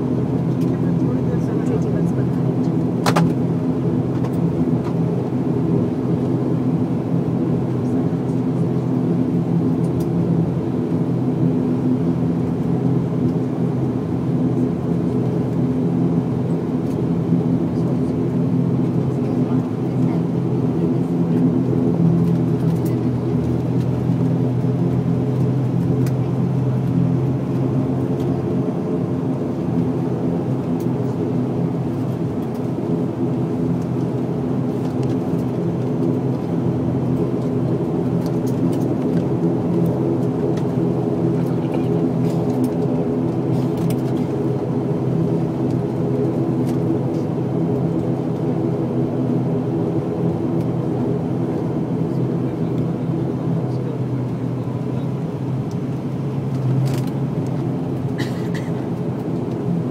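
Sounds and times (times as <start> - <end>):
turboprop engines droning in cabin: 0.0 - 59.9.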